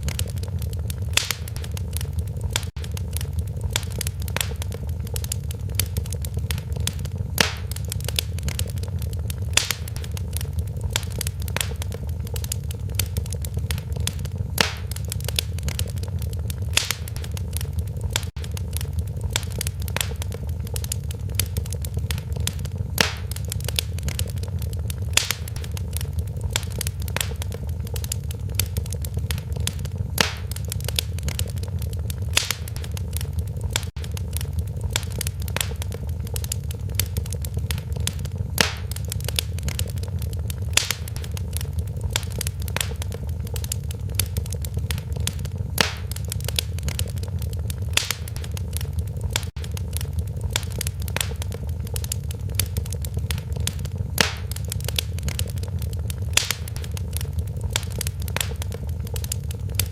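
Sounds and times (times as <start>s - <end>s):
low rumble of flames: 0.0s - 59.9s
sharp pops from fire: 0.0s - 59.9s
wood fire crackling: 0.0s - 59.9s.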